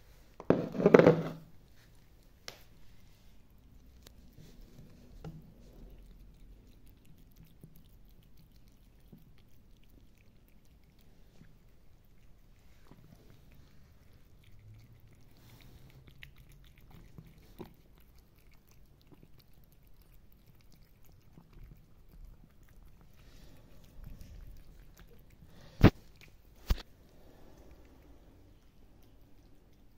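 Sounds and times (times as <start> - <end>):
cats chewing dry kibble: 1.4 - 29.9.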